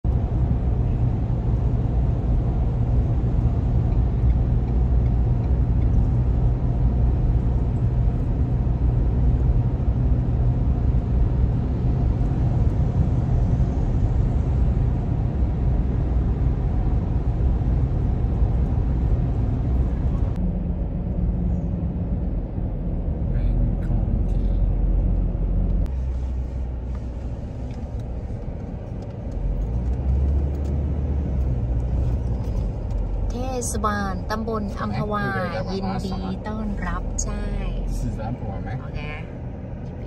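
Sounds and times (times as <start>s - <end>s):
road and engine rumble in car: 0.0s - 40.0s.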